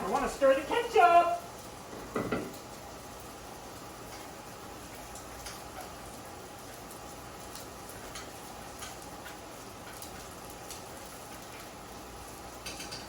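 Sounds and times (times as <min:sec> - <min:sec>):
food frying in a pan: 0:00.0 - 0:13.0.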